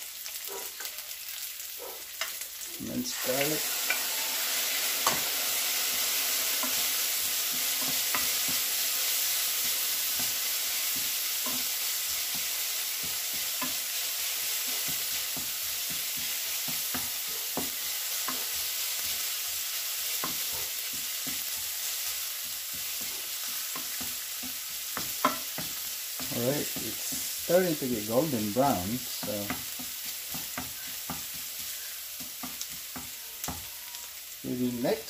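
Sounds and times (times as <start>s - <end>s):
onions sizzling in hot oil: 0.0s - 35.0s.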